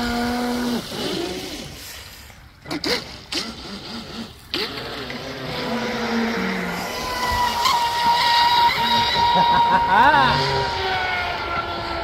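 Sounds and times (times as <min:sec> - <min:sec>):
electric boat motor whining: 0:00.0 - 0:12.0.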